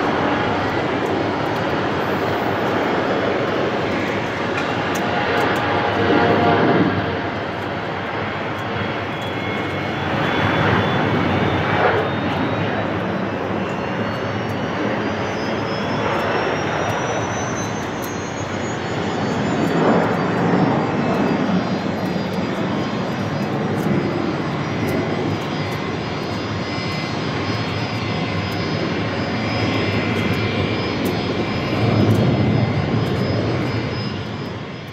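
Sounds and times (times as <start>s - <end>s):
jet engine roar and whine: 0.0s - 34.9s.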